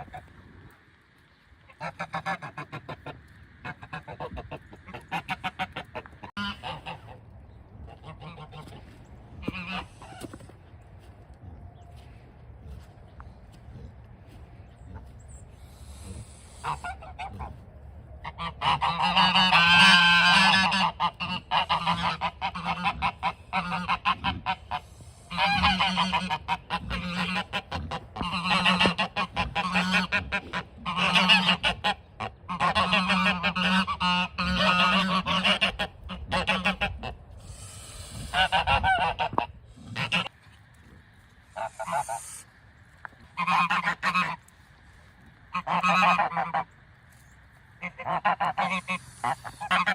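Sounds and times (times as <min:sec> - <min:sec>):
geese honking: 0:01.6 - 0:11.1, 0:14.2 - 0:40.4, 0:41.5 - 0:49.9.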